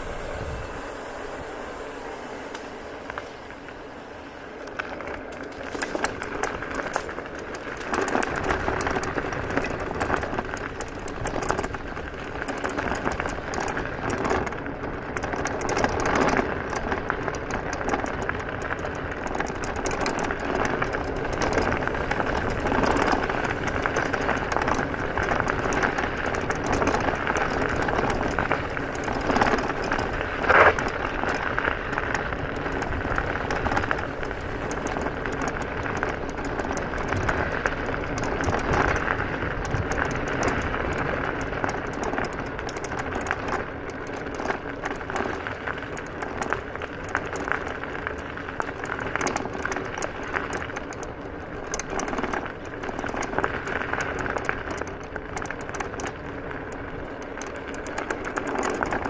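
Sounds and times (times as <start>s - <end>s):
tyres crunching over gravel: 0.0s - 59.0s.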